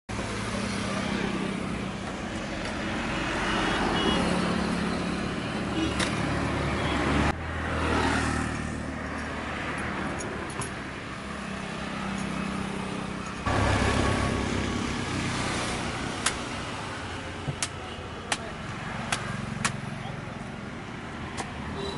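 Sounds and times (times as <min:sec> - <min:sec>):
highway traffic passing: 0:00.1 - 0:21.9.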